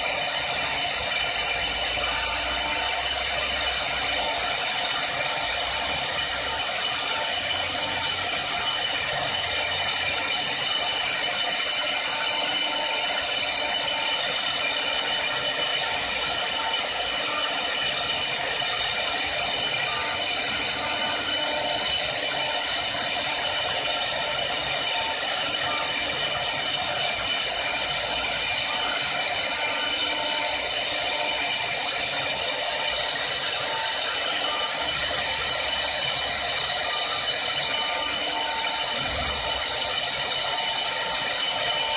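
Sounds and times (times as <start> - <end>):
lathe high whine: 0.0 - 41.9.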